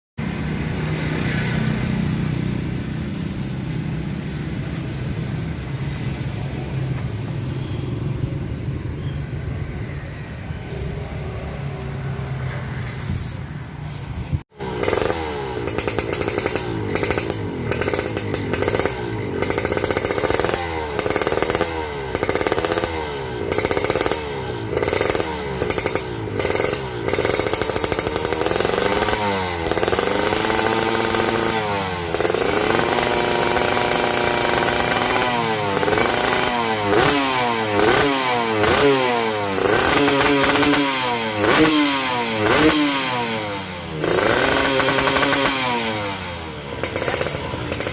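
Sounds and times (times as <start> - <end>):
motorcycle engine revving: 0.2 - 12.9, 13.6 - 47.9.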